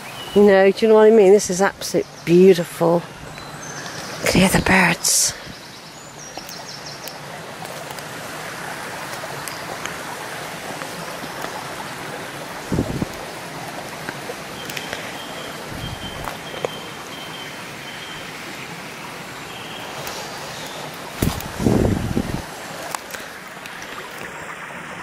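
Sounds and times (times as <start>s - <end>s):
stream babbling over stones: 0.0s - 25.0s.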